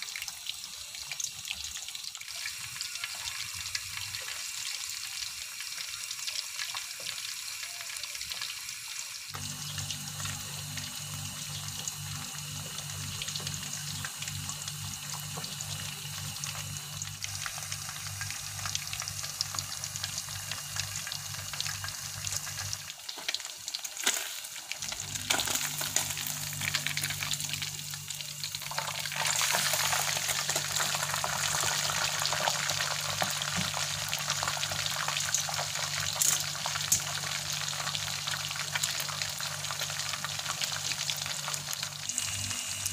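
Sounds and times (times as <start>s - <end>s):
fish deep-frying in oil: 0.0s - 42.9s.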